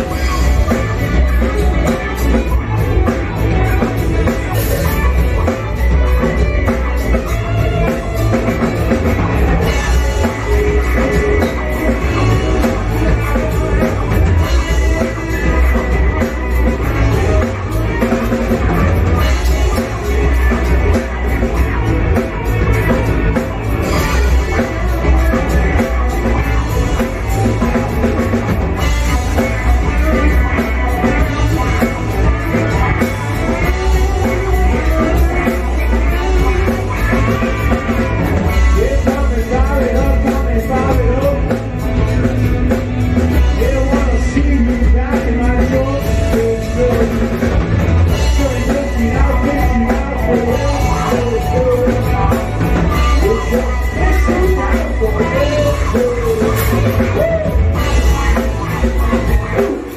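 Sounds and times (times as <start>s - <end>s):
rock band with lead vocal: 0.0s - 59.9s.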